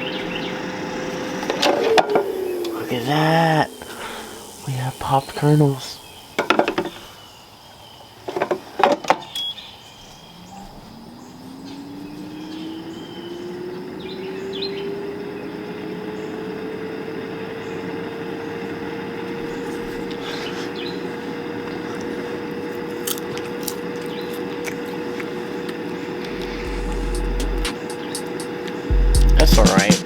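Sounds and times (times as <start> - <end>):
air fryer fan whirring: 0.0 - 8.6, 9.8 - 30.0.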